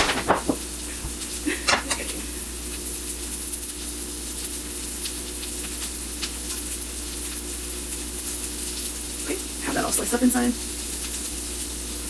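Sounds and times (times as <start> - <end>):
cutlets sizzling in a pan: 0.0 - 12.0.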